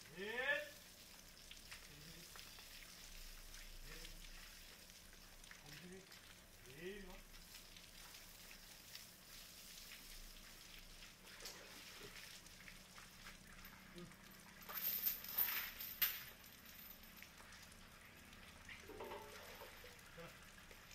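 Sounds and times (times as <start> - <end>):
water trickling and splashing: 0.0 - 20.9.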